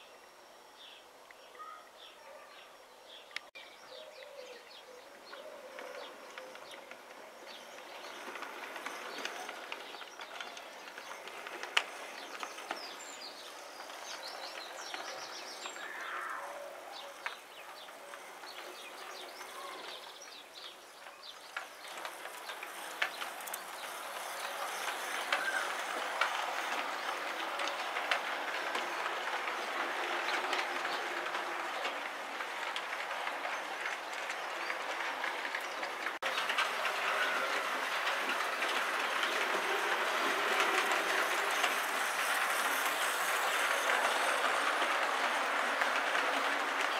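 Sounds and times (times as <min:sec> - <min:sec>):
model train wheels clicking: 0:05.0 - 0:46.9.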